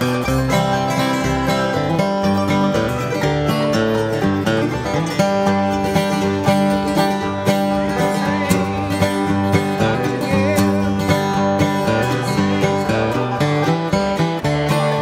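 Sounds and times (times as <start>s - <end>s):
banjo picking: 0.0s - 15.0s
bluegrass band playing: 0.0s - 15.0s.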